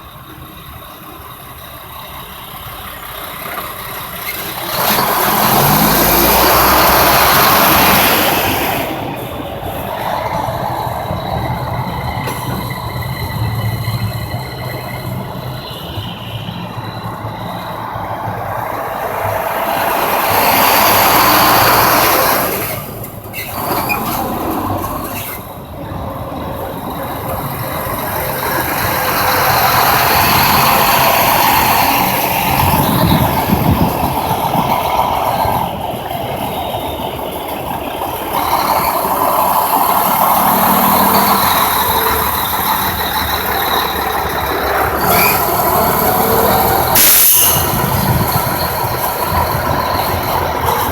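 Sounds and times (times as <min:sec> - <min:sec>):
highway traffic passing: 0:00.0 - 0:50.9.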